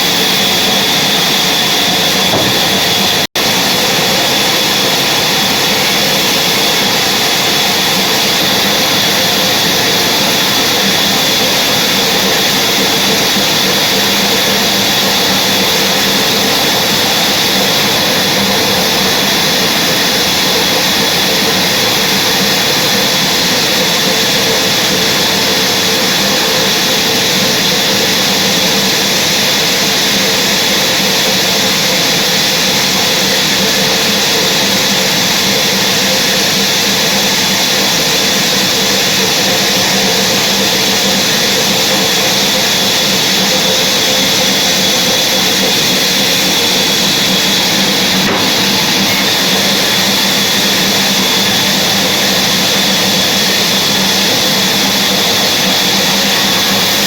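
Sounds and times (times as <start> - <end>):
sawmill machinery with high whine: 0.0 - 57.0.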